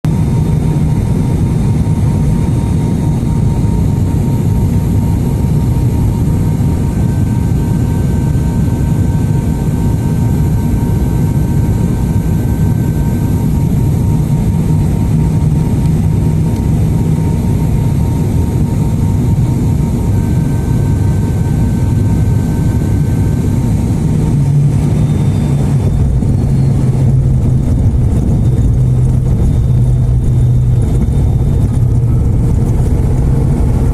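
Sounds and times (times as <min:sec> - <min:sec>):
faint steady whine: 0:00.1 - 0:33.9
turboprop engines droning: 0:00.1 - 0:33.9.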